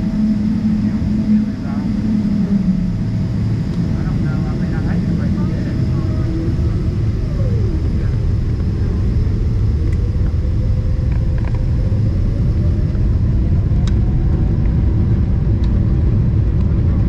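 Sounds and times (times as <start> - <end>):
jet engines spooling up: 0.0 - 17.0.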